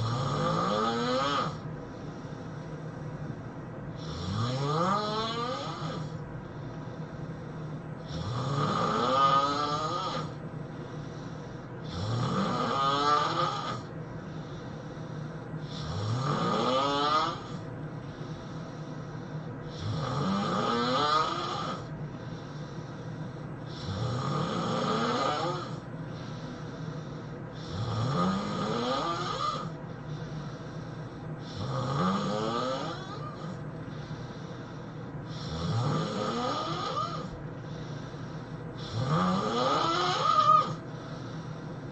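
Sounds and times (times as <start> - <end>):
person snoring heavily: 0.0 - 1.7, 4.0 - 6.2, 8.0 - 17.6, 19.6 - 23.0, 23.6 - 41.9.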